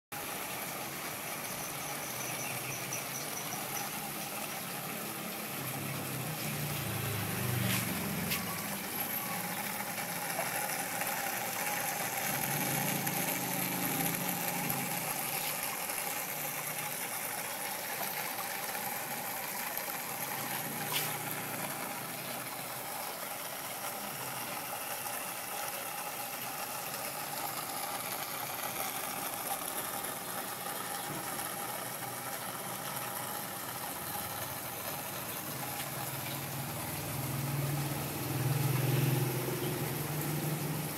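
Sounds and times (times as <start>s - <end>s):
aquarium water pump running: 0.1s - 40.9s
water trickling through filter: 0.2s - 40.9s.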